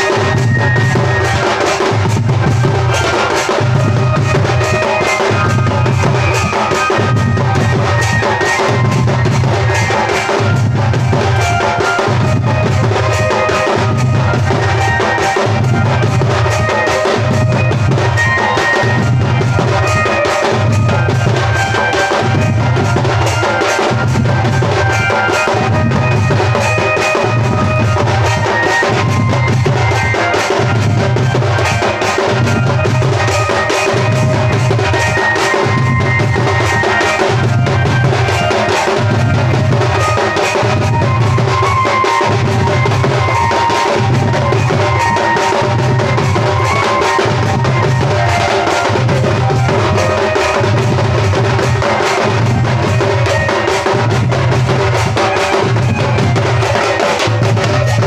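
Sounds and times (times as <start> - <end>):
drum music with steady beat: 0.0 - 58.0
high pitched melody: 0.0 - 58.0.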